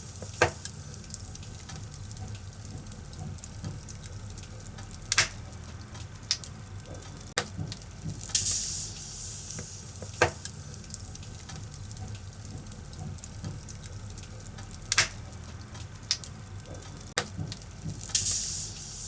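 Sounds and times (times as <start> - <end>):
logs crackling and popping: 0.0 - 8.8, 9.5 - 19.0
fire rumbling and hissing: 0.0 - 19.0.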